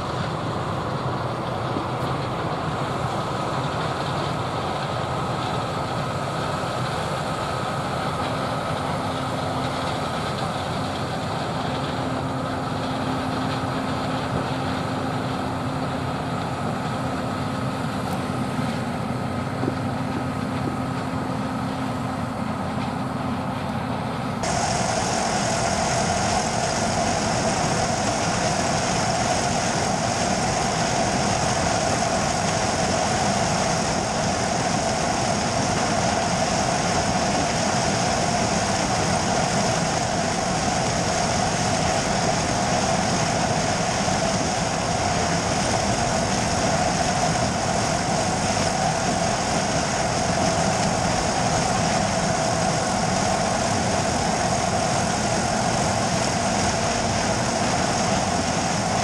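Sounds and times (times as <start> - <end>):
distant combine harvester hum: 0.0 - 59.0.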